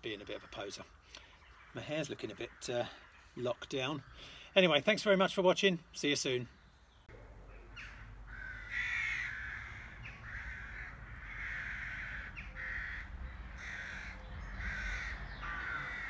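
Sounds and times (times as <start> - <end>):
bird calling: 0.1 - 4.5, 6.5 - 16.0.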